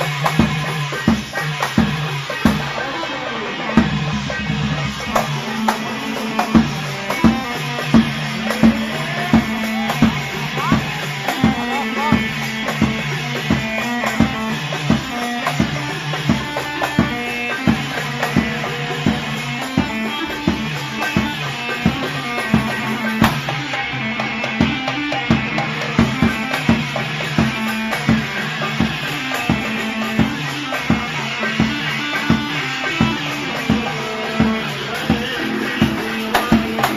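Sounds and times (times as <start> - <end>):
live band music: 0.0 - 36.9.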